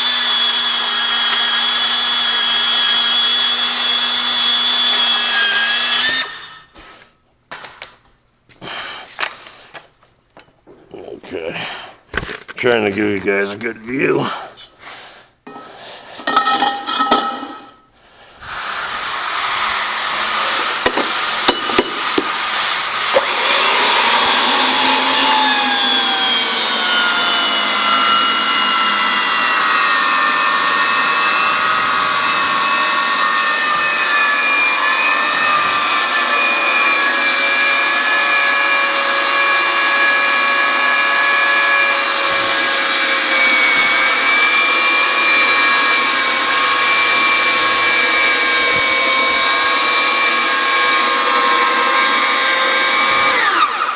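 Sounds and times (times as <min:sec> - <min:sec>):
power tool cutting steel pipe: 0:00.0 - 0:07.1, 0:15.5 - 0:17.8, 0:18.4 - 0:53.9.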